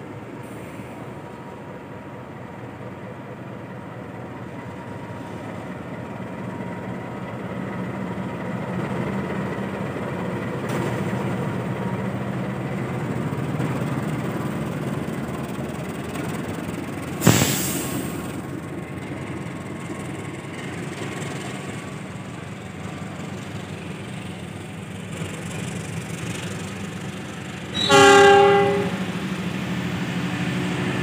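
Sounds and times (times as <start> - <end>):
diesel locomotive engine under load: 0.0 - 31.0
train coaches rolling by: 0.0 - 31.0.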